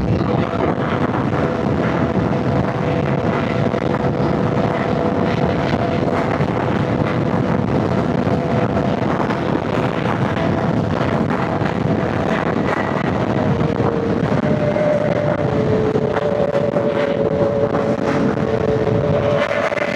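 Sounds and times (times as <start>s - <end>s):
motorcycle engine drone: 0.0s - 19.9s
wind rush on microphone: 0.0s - 19.9s.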